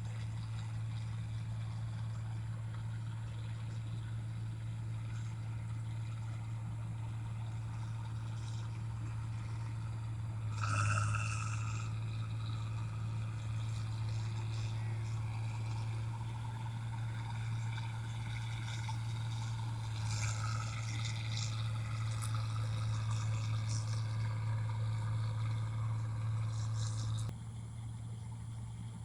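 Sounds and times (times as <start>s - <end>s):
machine motor hum: 0.0s - 29.0s.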